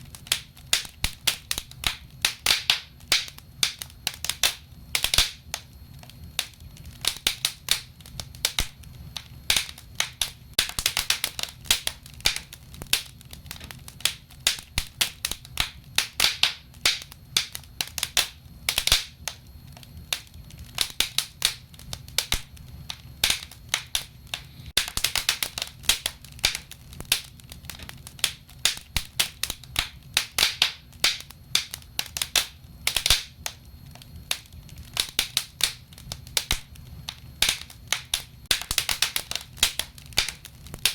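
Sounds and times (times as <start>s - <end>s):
low noise of burning: 0.0s - 40.9s
wood fire crackling and popping: 0.0s - 40.9s.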